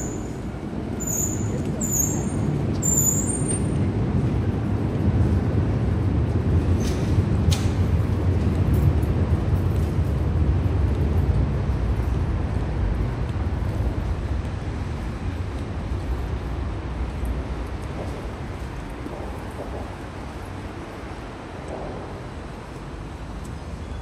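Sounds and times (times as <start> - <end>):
road noise hiss: 0.0 - 24.0.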